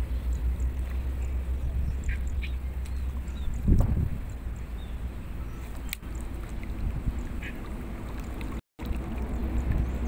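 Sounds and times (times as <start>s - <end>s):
wind rumble on microphone: 0.0s - 10.0s
water stirring: 0.2s - 10.0s.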